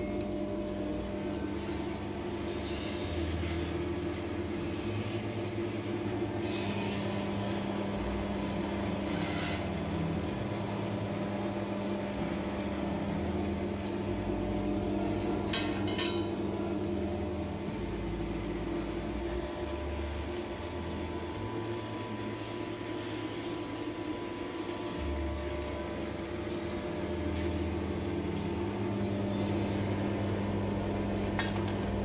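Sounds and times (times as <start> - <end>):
oil press humming and grinding: 0.0 - 32.0.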